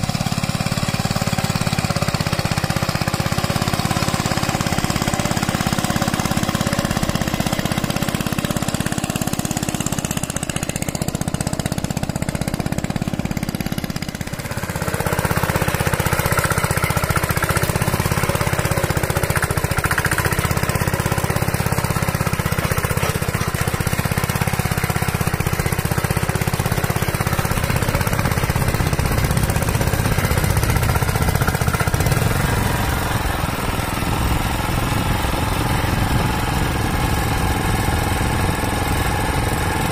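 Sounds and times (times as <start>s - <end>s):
diesel hand tractor chugging: 0.0s - 39.9s.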